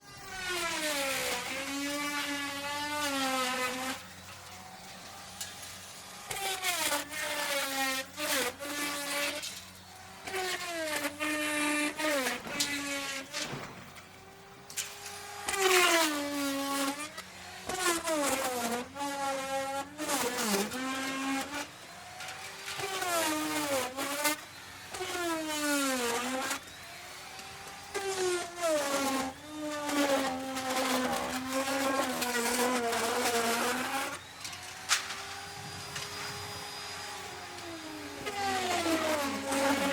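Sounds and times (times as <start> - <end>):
wood router cutting wood: 0.0 - 39.9.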